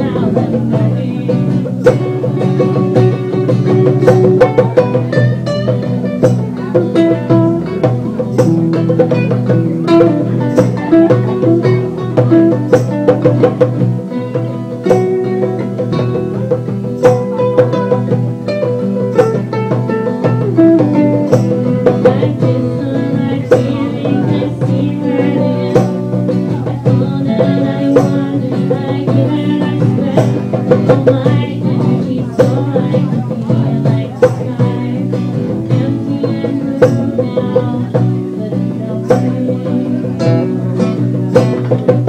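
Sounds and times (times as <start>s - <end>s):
acoustic guitar playing: 0.0s - 42.0s.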